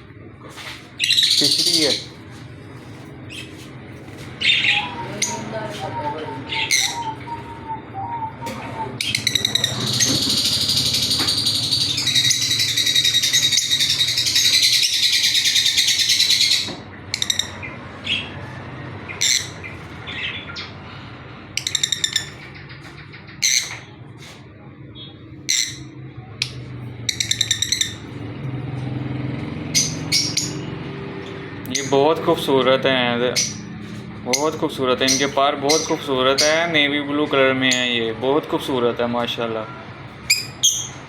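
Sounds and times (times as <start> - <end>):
lovebirds chirping and twittering: 0.6 - 39.3, 40.1 - 41.0.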